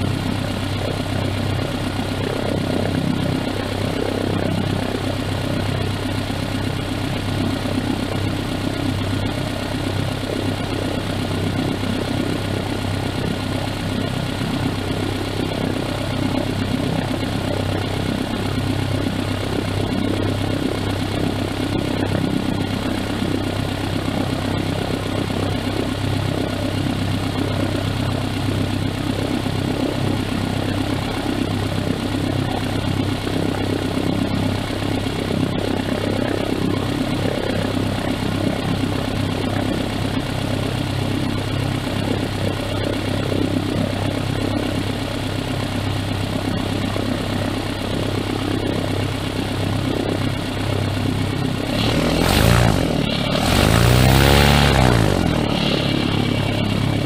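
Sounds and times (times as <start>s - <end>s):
engine droning steadily: 0.0s - 57.0s.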